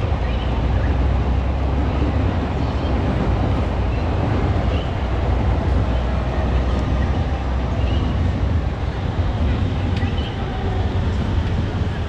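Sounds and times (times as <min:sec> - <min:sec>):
city street noise: 0:00.0 - 0:12.0
train rumbling over bridge: 0:00.0 - 0:12.0.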